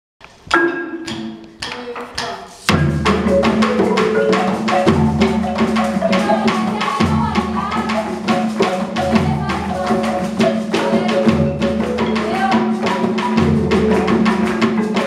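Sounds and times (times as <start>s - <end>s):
hand drums playing rhythm: 0.5s - 15.0s
marimba notes: 0.5s - 15.0s.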